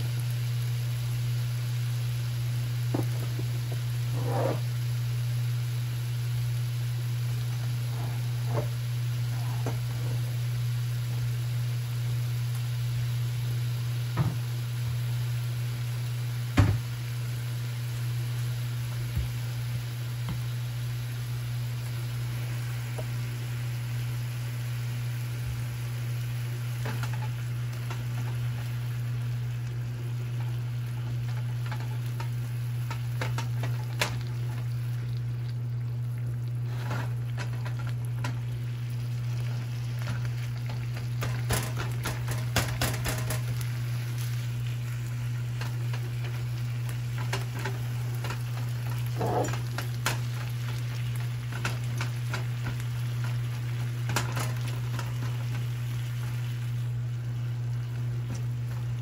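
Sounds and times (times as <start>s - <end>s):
meat sizzling in a skillet: 0.0s - 59.0s
steady low hum: 0.0s - 59.0s.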